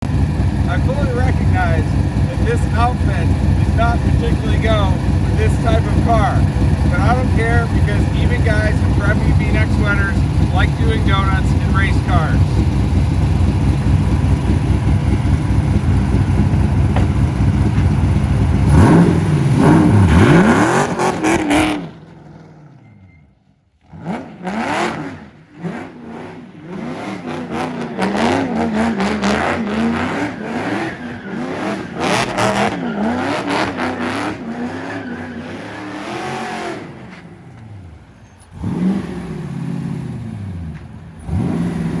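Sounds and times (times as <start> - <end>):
race car engine revving: 0.0 - 23.1, 23.8 - 42.0.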